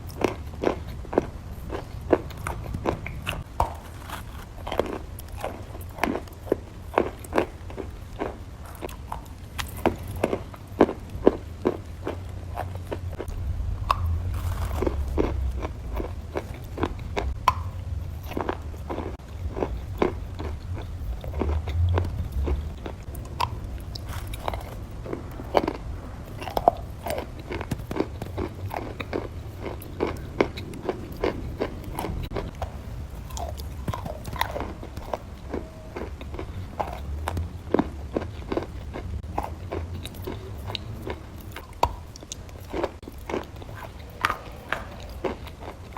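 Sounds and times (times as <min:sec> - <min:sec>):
crunchy biting and chewing: 0:00.0 - 0:45.9
low steady hum: 0:00.0 - 0:45.9.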